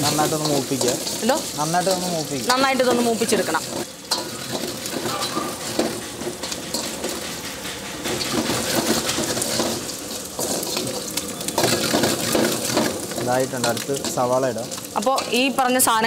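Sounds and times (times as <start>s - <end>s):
metal ladle scraping a pan: 0.0s - 15.6s
food sizzling in oil: 0.0s - 16.0s.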